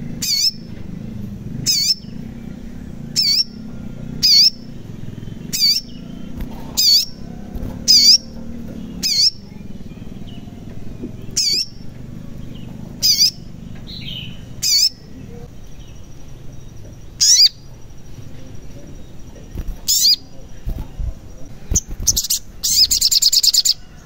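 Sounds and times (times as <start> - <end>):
bird twittering trill: 0.0 - 24.0
sunbird high sharp calls: 0.0 - 24.0.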